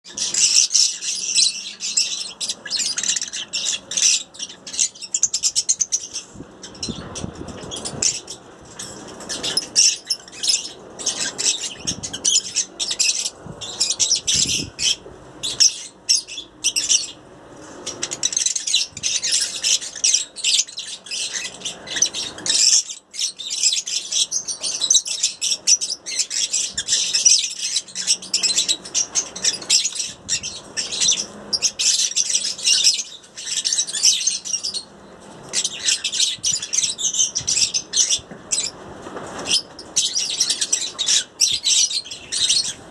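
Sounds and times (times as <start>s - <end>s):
lovebirds chattering: 0.1s - 42.9s.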